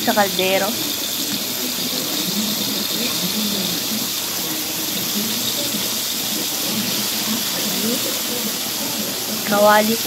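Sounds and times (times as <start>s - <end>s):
oil sizzling in a wok: 0.0s - 10.0s.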